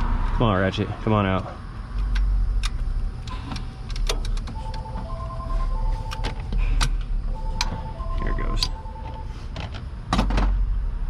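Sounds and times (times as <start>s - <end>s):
faint steady tones: 0.6s - 9.9s.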